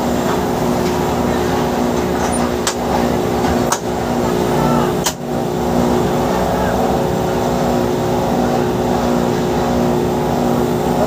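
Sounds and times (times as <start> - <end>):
tug engine idling: 0.0 - 11.0.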